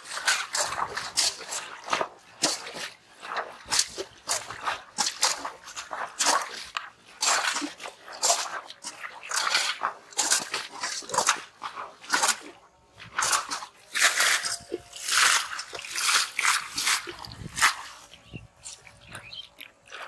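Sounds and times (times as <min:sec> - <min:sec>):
fish splashing in water: 0:00.0 - 0:20.0.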